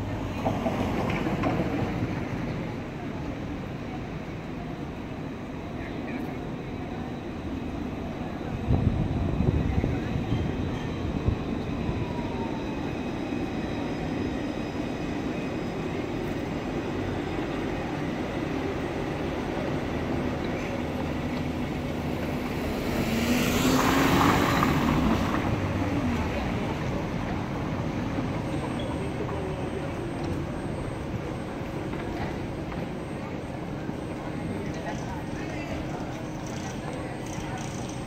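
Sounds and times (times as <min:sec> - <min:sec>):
city street traffic: 0:00.0 - 0:38.0.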